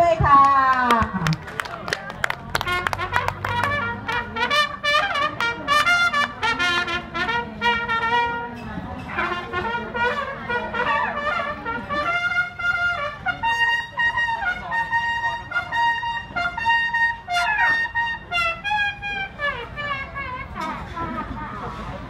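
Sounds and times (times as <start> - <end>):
brass-like melody: 2.5 - 21.8.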